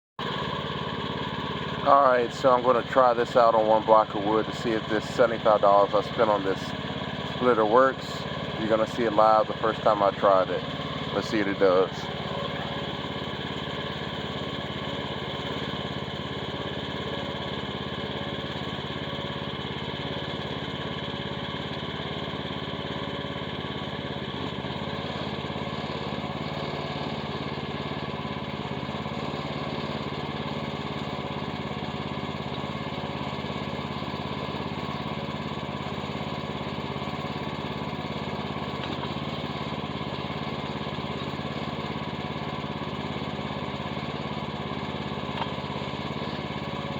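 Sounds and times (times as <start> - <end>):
small engine running steadily: 0.2 - 46.9.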